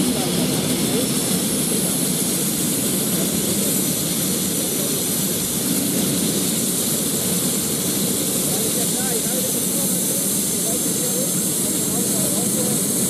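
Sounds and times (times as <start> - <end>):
helicopter engine whine: 0.0 - 13.0
helicopter rotor noise: 0.0 - 13.0.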